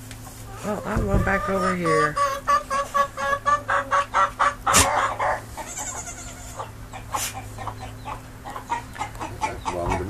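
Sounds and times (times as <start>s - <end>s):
chicken clucking: 0.3s - 10.0s.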